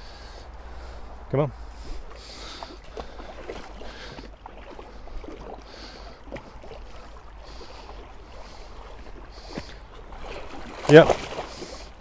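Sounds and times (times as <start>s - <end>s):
river water lapping: 0.0s - 12.0s.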